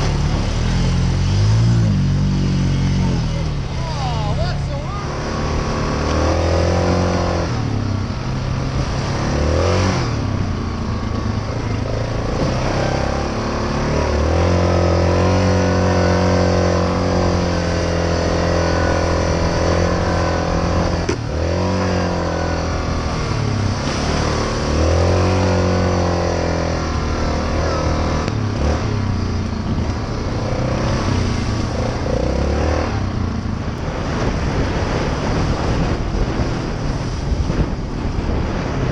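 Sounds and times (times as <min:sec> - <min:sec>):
quad bike engine running: 0:00.0 - 0:38.9.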